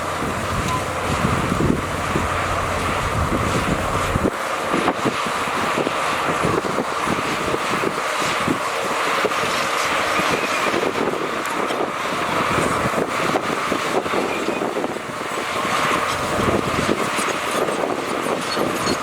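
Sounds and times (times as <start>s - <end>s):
constant engine whine: 0.0s - 19.0s
diesel earthmoving machinery running: 0.0s - 19.0s.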